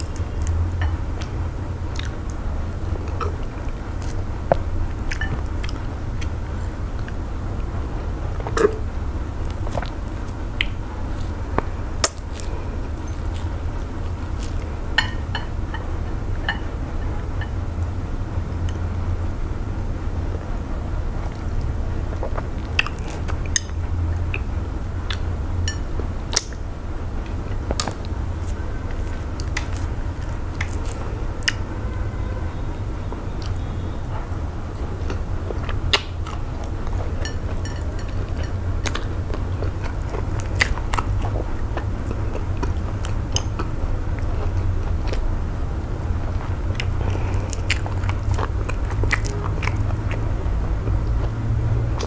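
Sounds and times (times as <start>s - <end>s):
chewing and wet mouth sounds: 0.0s - 52.0s
steady low hum: 0.0s - 52.0s.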